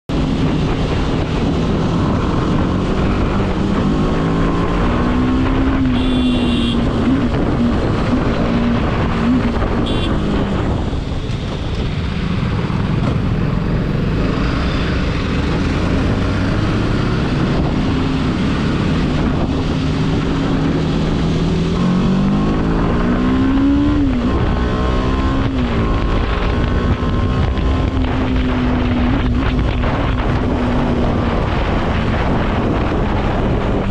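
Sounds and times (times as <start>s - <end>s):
wind on microphone: 0.1s - 33.9s.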